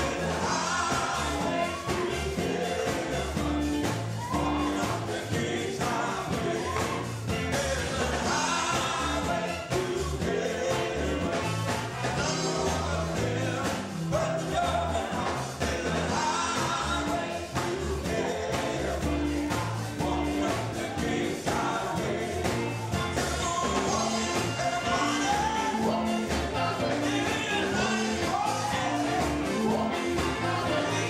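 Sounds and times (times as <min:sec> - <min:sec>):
amplified guitar: 0:00.0 - 0:31.0
male quartet singing: 0:00.0 - 0:31.0.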